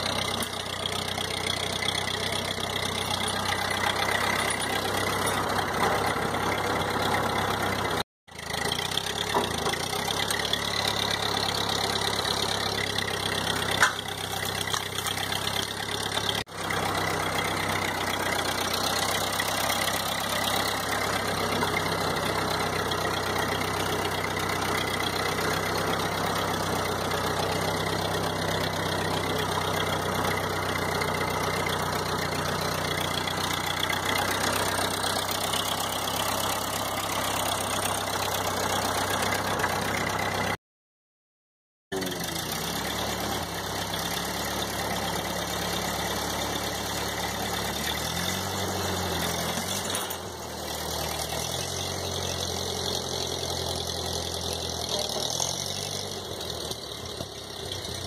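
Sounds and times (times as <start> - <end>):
tractor engine running: 0.0 - 40.6, 41.9 - 58.0.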